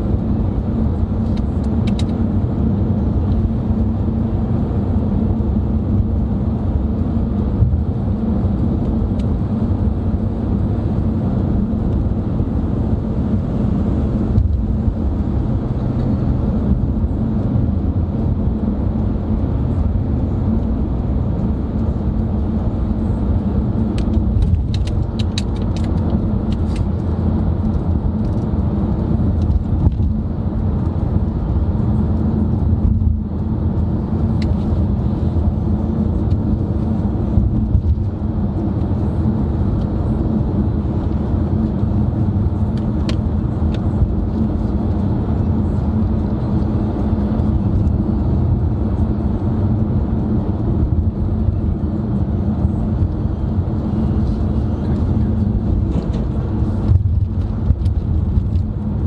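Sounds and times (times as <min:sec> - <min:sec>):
car driving road noise: 0:00.0 - 0:59.0.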